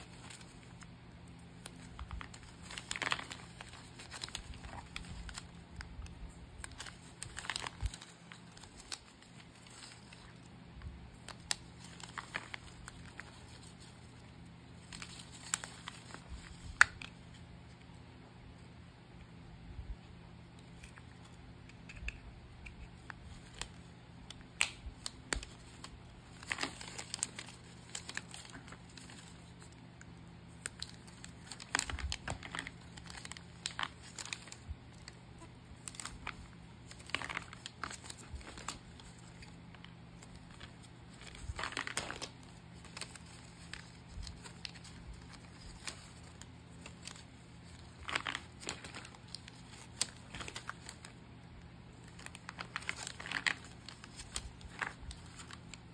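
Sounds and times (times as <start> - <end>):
packaging crinkling and rustling: 0.0 - 18.0, 20.5 - 55.9
steady low hum: 0.0 - 55.9
packaging tearing: 1.5 - 10.4, 11.1 - 17.1, 22.9 - 29.8, 30.5 - 51.2, 51.9 - 55.8.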